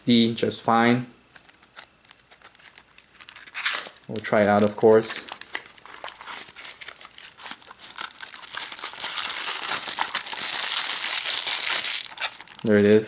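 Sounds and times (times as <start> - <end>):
plastic packaging crinkling: 1.4 - 13.0.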